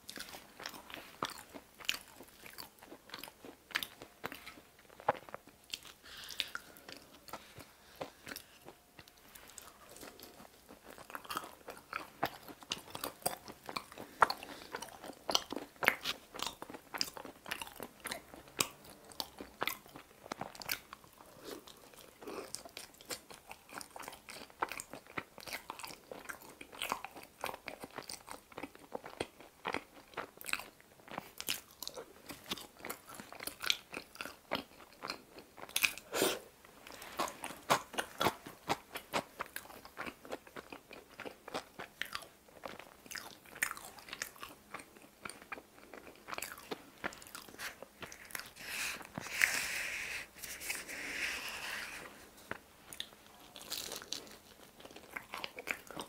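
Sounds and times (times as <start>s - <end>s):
person chewing pizza crust: 0.1s - 56.0s.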